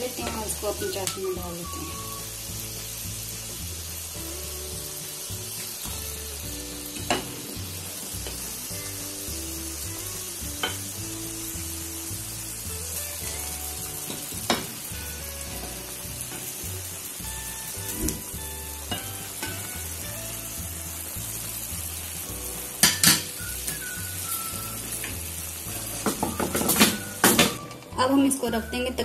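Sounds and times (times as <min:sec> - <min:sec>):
dough sizzling in hot oil: 0:00.0 - 0:28.4.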